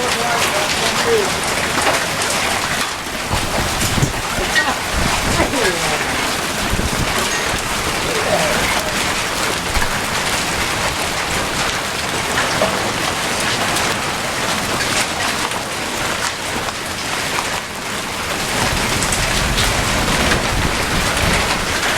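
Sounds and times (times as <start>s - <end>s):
hailstones striking: 0.0s - 21.9s
heavy rain: 0.0s - 21.9s.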